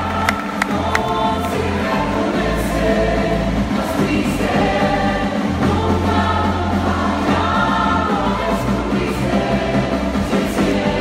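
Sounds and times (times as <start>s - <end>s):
voices singing together: 0.0s - 11.0s.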